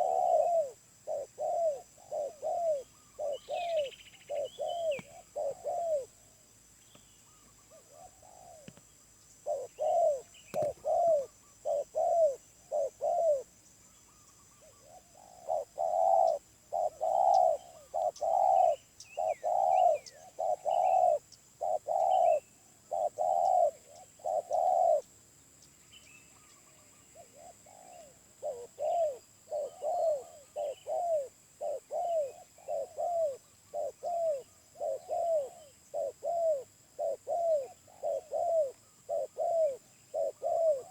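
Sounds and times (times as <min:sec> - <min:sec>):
dove cooing: 0:00.0 - 0:06.4, 0:07.3 - 0:25.2, 0:26.4 - 0:40.9.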